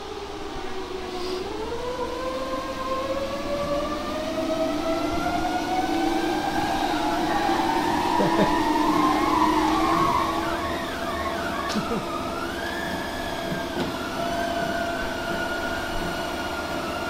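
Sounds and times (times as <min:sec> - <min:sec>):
treadmill motor whining: 0:00.0 - 0:17.0.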